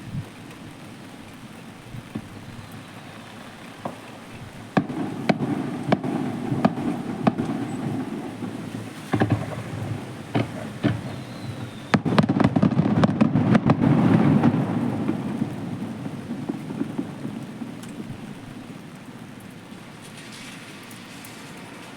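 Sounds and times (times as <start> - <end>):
fireworks bangs and crackling: 0.0 - 21.9
low rolling rumble: 0.0 - 21.9.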